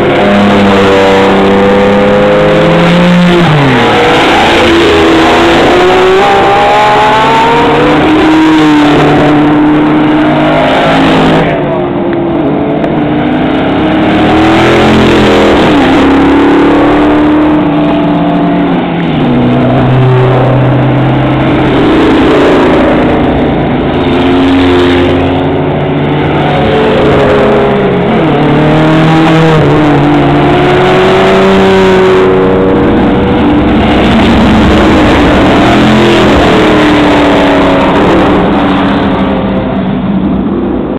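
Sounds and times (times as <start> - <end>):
race cars passing by: 0.0 - 40.9.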